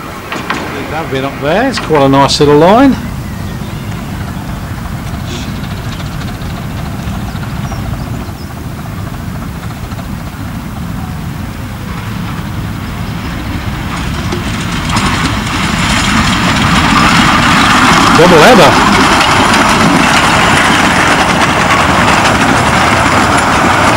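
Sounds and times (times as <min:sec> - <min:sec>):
hissing noise: 0:00.0 - 0:20.2
miniature train rumbling: 0:00.0 - 0:23.9.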